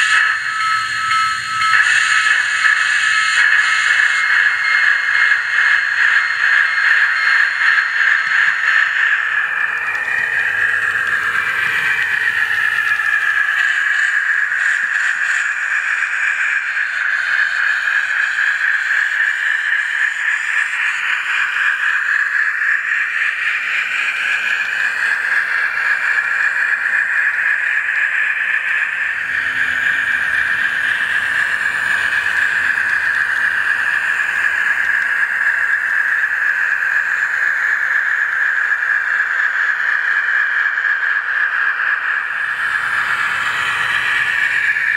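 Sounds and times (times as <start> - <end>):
model train running on track: 0.0 - 44.9
steam engine sound from small speaker: 0.0 - 44.9.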